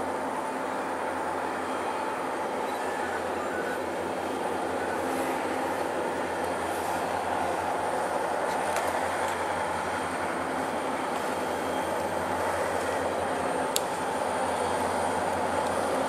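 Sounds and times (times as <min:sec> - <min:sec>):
moving train rumble: 0:00.0 - 0:16.0.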